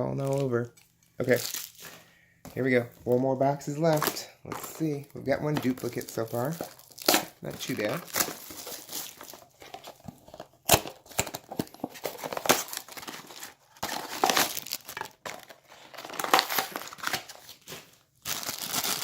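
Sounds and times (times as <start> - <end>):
plastic bag crinkling: 0.1 - 19.0.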